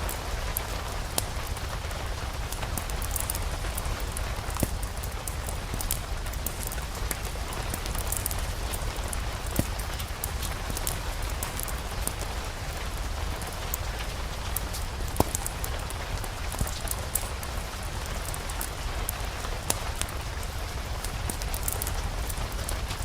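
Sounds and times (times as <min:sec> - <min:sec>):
sharp crackles and pops: 0:00.0 - 0:23.0
steady rain: 0:00.0 - 0:23.0.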